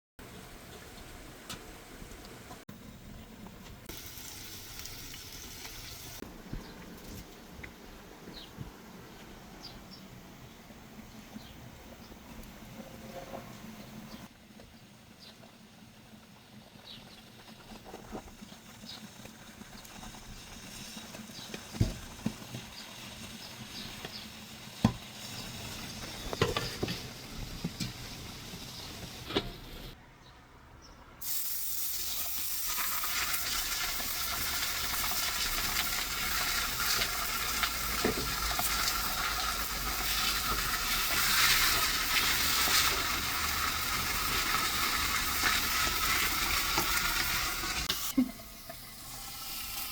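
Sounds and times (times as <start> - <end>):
open-fire cooking sizzling: 0.2 - 30.0, 31.2 - 49.9.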